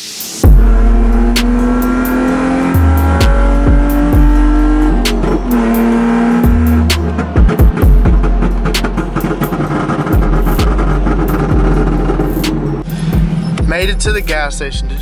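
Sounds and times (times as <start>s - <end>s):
electronic music with heavy bass: 0.0s - 15.0s
car engine accelerating: 0.1s - 15.0s.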